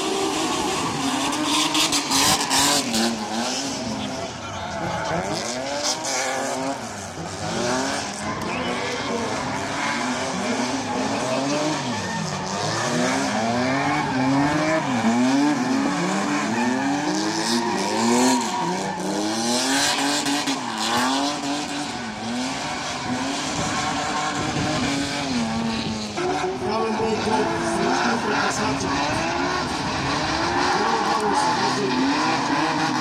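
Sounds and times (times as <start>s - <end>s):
car engine revving hard: 0.0s - 33.0s.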